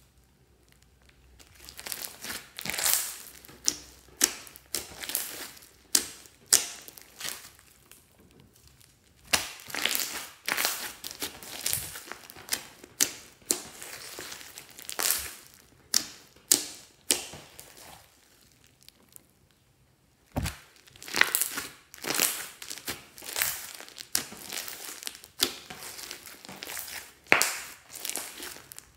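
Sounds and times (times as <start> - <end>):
slime squished by hand: 1.0 - 19.4, 20.3 - 28.9.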